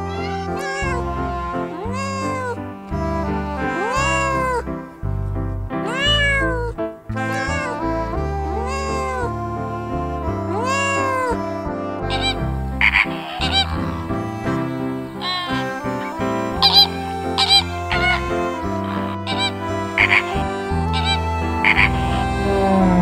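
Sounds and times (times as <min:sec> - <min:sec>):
cats meowing: 0:00.0 - 0:05.0, 0:05.8 - 0:23.0
flamingos honking: 0:00.0 - 0:05.0, 0:07.1 - 0:23.0
background music: 0:00.0 - 0:23.0.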